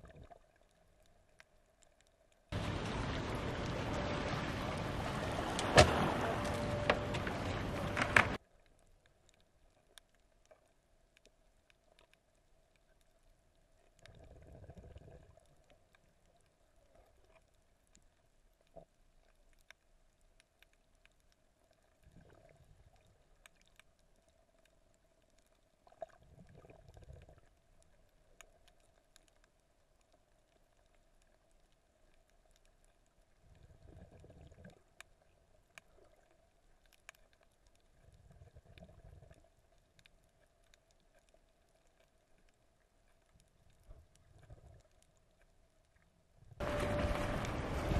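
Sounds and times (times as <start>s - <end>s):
muffled underwater water swells: 0.0s - 47.9s.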